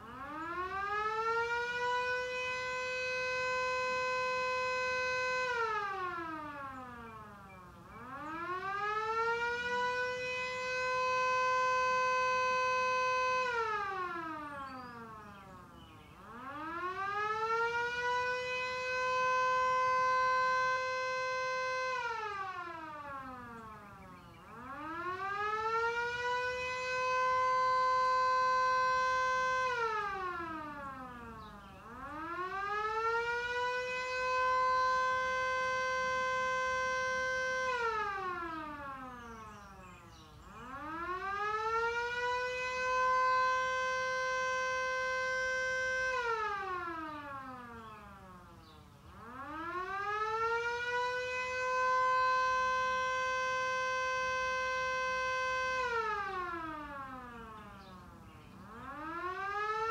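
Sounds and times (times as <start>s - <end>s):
siren wailing: 0.0s - 59.9s.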